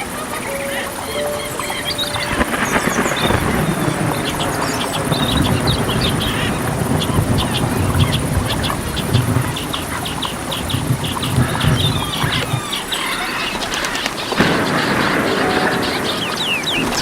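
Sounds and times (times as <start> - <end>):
birds chirping: 0.0 - 17.0
high insect drone: 0.0 - 17.0
whistled bird calls: 0.0 - 17.0.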